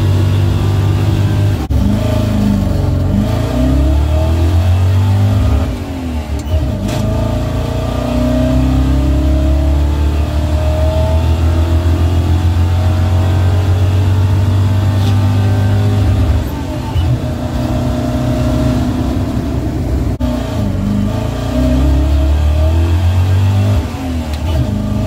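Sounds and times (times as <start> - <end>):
pickup engine accelerating: 0.0 - 25.0.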